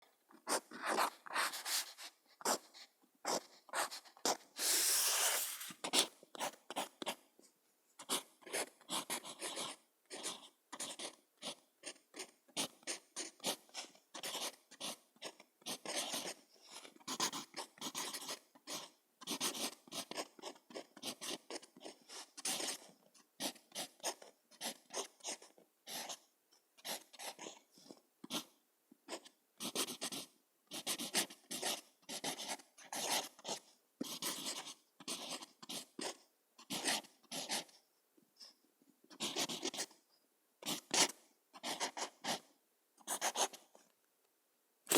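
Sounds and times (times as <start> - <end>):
pen writing on paper: 0.3 - 7.3, 8.0 - 37.8, 39.1 - 40.0, 40.6 - 43.8.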